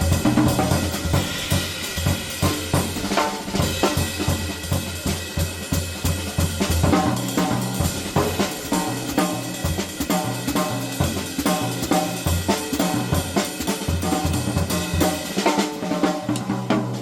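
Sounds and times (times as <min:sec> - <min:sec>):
jazz drum kit playing: 0:00.0 - 0:17.0.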